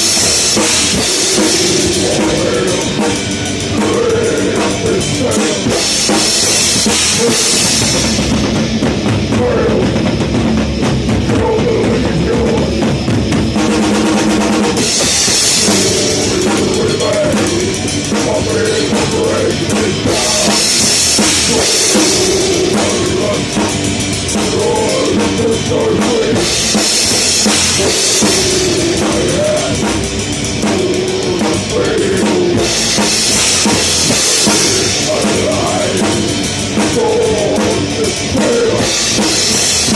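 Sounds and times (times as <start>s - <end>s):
fast drumming with bass drum: 0.0s - 39.9s
heavy metal band playing: 0.0s - 39.9s.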